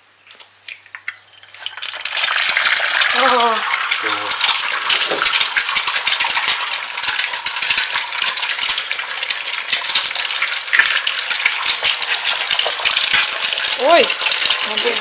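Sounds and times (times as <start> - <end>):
eggs sizzling in oil: 0.4 - 15.0.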